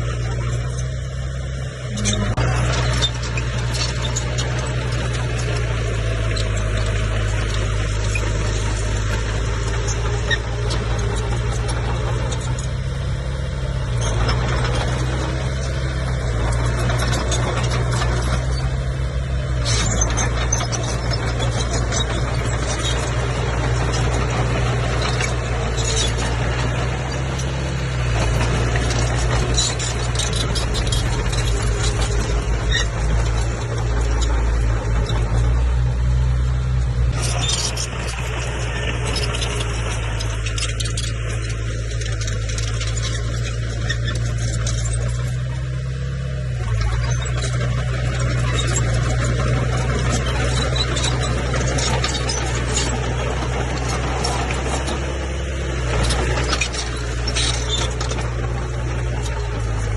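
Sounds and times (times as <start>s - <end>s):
bulldozer diesel engine running: 0.0s - 59.9s
metallic squeaks and clanks of tracks: 0.0s - 59.9s.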